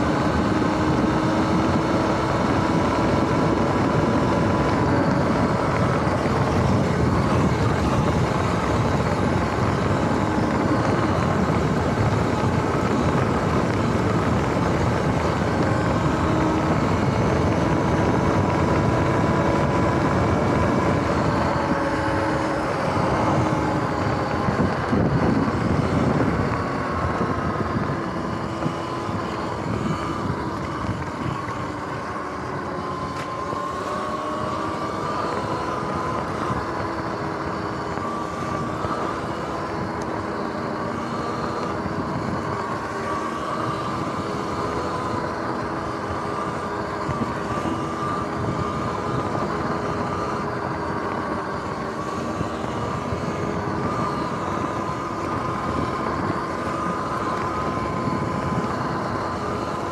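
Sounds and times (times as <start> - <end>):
electric motor whine: 0.0 - 59.9
steady rushing noise: 0.0 - 59.9.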